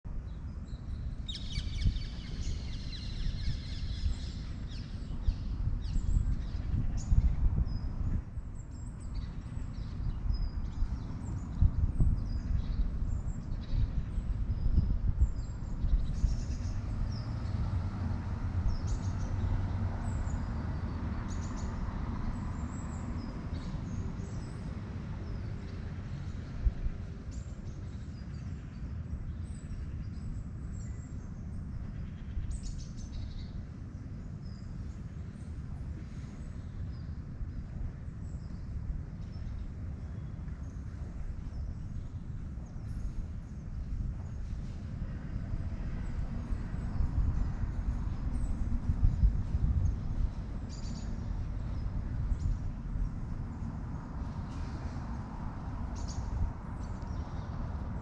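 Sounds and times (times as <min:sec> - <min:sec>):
low outdoor rumble: 0:00.0 - 0:58.0
small birds chirping: 0:00.1 - 0:58.0.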